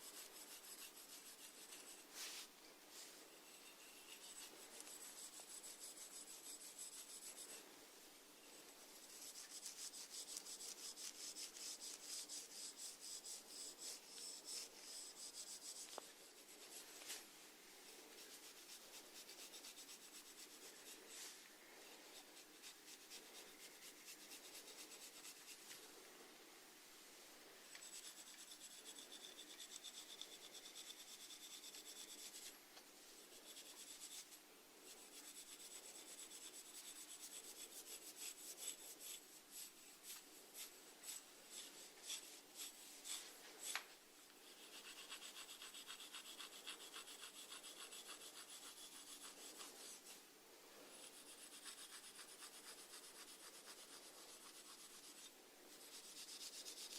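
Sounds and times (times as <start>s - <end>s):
snails rasping while feeding: 0.0s - 2.5s, 3.4s - 7.8s, 8.4s - 17.0s, 17.9s - 25.9s, 27.6s - 50.2s, 50.8s - 56.9s.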